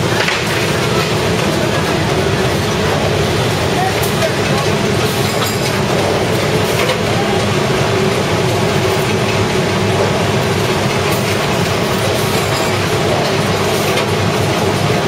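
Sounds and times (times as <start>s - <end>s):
printing machine running: 0.0s - 15.0s.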